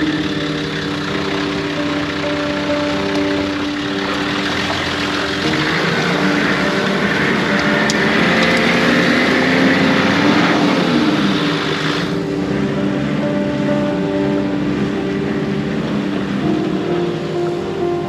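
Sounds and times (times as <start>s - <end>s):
off-road vehicle engine: 0.0s - 18.0s.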